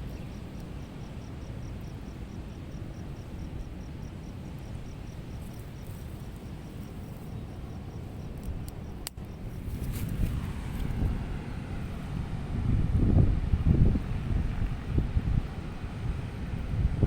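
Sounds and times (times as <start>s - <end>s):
wind rumbling: 0.0s - 17.0s.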